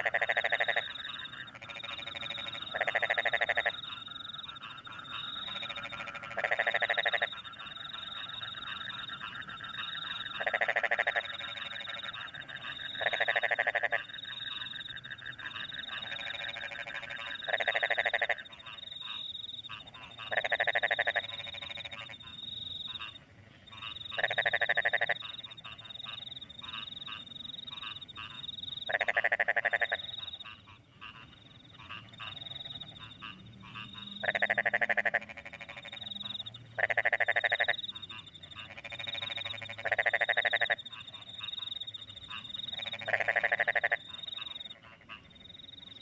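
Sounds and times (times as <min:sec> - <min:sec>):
crickets and frogs chorus: 0:00.0 - 0:46.0
frogs croaking: 0:00.0 - 0:46.0.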